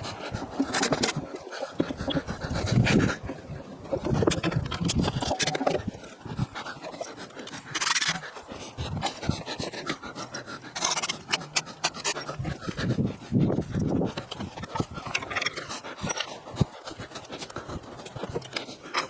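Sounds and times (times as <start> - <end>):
heavy panting breaths: 0.0 - 19.0.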